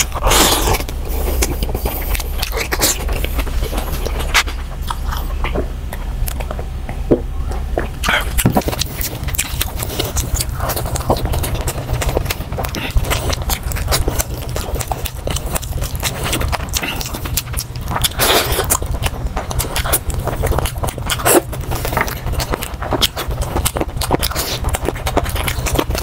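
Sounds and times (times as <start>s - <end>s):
person chewing and smacking lips: 0.0s - 26.0s.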